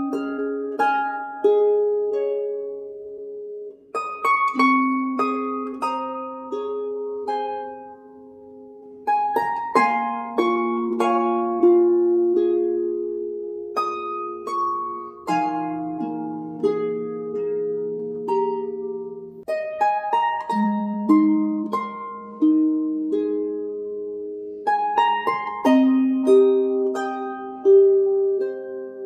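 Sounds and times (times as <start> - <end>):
plucked string melody: 0.0 - 29.0.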